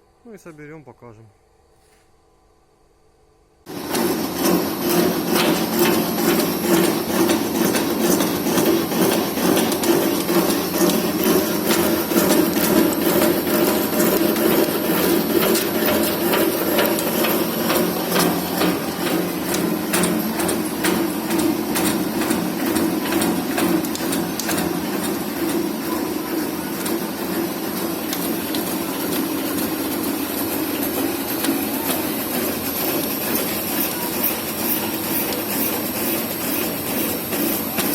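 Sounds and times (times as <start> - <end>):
machinery humming: 3.7 - 37.9
rapid metallic clicks and knocks: 3.7 - 37.9.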